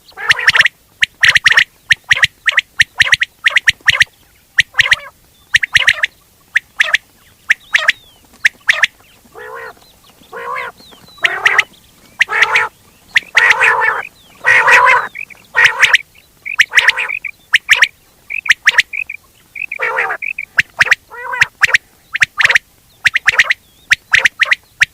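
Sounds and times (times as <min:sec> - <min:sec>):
quail calling: 0:00.0 - 0:24.9.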